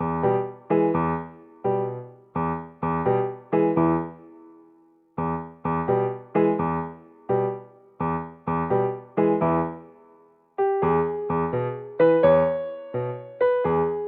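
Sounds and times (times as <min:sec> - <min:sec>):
piano-like keyboard music: 0:00.0 - 0:14.0.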